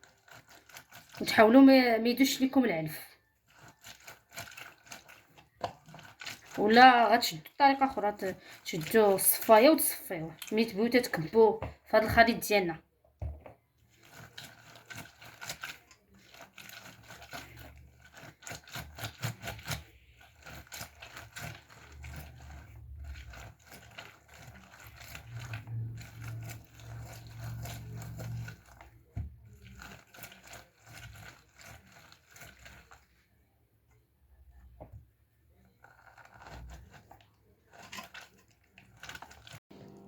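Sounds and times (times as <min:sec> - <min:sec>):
lemons squished and squeezed: 0:00.0 - 0:12.7, 0:13.6 - 0:40.0.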